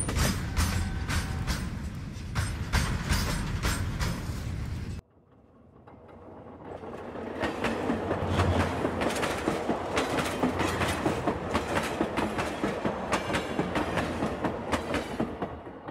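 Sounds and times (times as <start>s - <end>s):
train wheels clickety-clack: 0.0s - 5.0s, 5.8s - 15.9s
steady train rumble: 0.0s - 15.9s.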